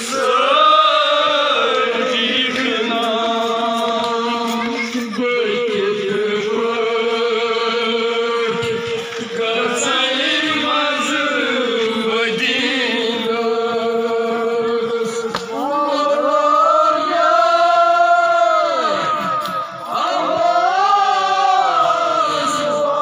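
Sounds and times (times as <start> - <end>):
men chanting in long notes: 0.0 - 23.0.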